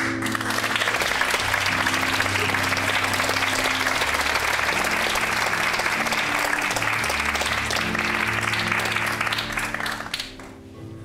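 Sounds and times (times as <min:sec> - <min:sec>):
audience applauding: 0:00.0 - 0:10.6
music with sustained low notes: 0:00.0 - 0:11.0.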